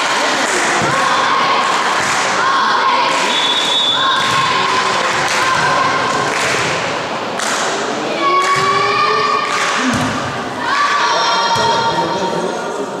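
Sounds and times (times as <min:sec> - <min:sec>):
girls chanting: 0:00.0 - 0:06.4, 0:08.0 - 0:12.4.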